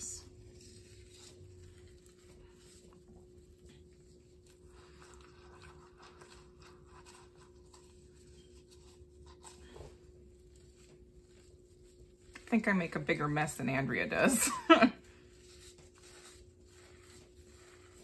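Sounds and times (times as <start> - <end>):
damp sponge wiping tiles: 0.0 - 18.0.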